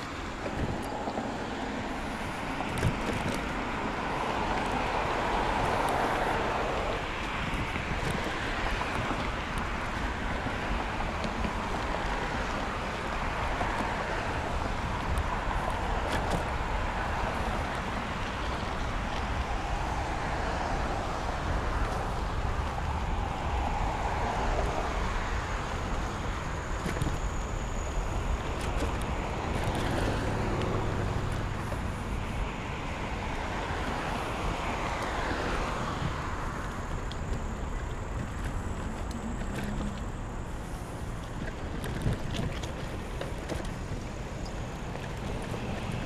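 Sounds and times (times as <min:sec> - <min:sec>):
bicycle tyres on gravel: 0:00.0 - 0:46.0
wind on microphone: 0:00.0 - 0:46.0.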